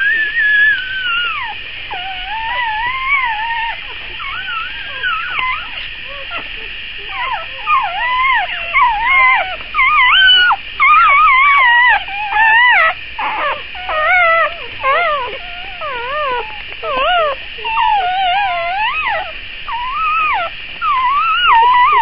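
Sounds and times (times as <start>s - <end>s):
puppies whimpering and squealing: 0.0s - 22.0s.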